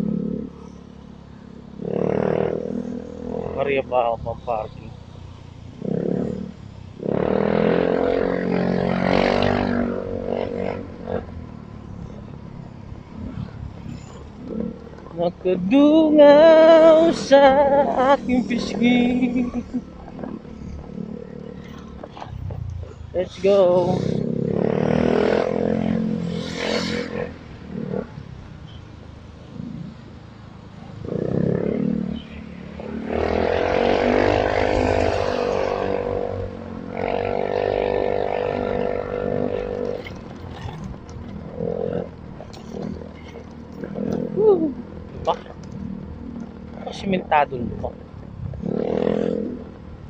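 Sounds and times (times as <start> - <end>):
motor vehicle engine running: 0.0 - 50.0.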